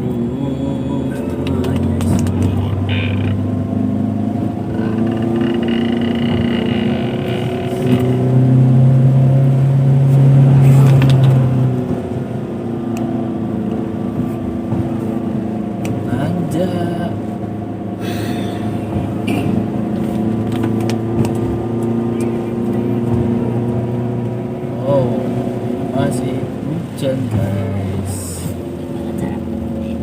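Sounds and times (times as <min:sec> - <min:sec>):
car engine heard from cabin: 0:00.0 - 0:30.0.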